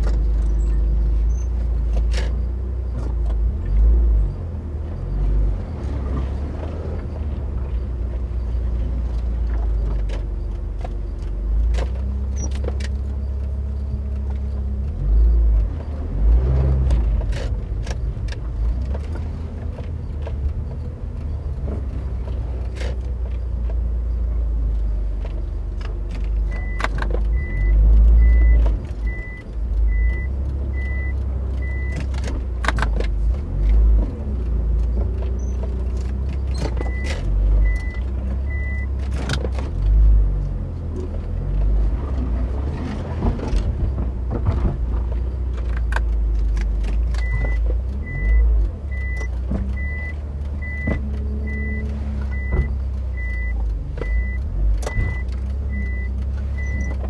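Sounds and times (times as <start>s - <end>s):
car driving on rough road: 0.0s - 57.0s.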